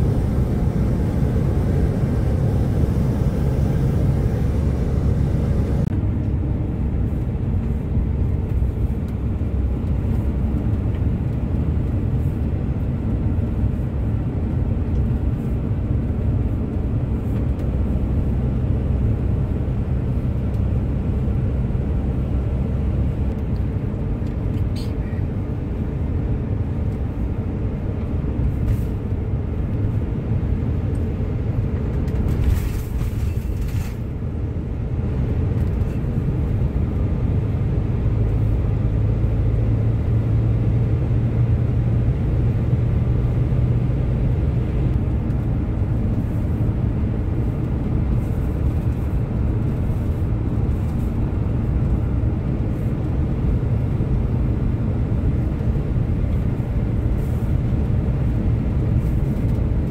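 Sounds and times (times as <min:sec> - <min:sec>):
van engine and tyres rumbling: 0:00.0 - 0:59.9.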